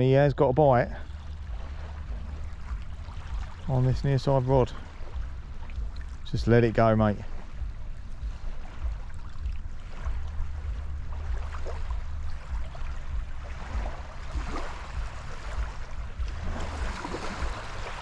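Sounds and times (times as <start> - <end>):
small waves lapping: 0.0 - 18.0
wind rumbling on microphone: 0.0 - 18.0.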